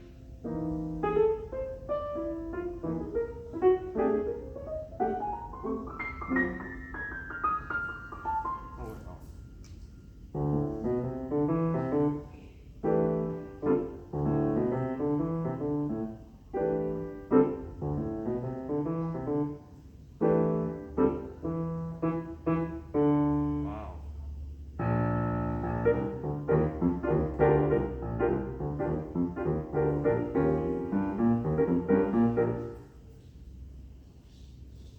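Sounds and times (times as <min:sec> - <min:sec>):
grand piano chords: 0:00.0 - 0:33.9.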